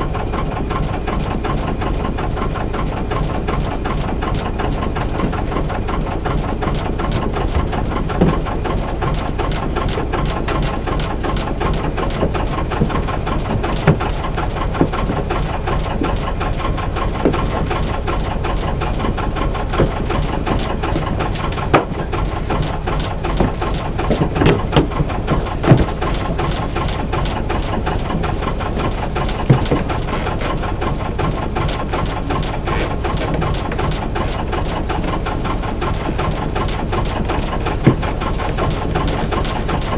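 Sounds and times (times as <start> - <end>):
marine engine running: 0.0 - 39.9
sharp engine knocks: 0.0 - 39.9.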